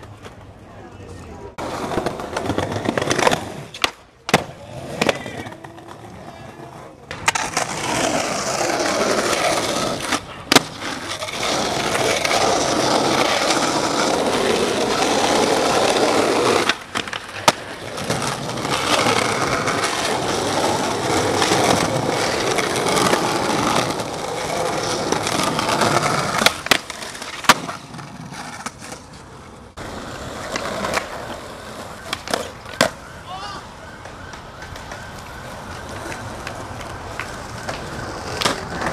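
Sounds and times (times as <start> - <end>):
skateboard wheels rolling on stone: 0.0 - 33.1, 33.7 - 38.9
skateboard grinding on ledge: 1.6 - 33.0
skateboard popping and slapping: 1.6 - 33.1, 33.9 - 38.9.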